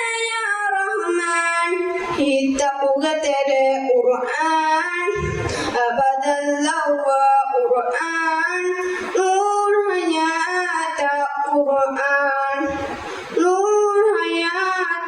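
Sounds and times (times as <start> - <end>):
child singing devotional song: 0.0 - 15.0.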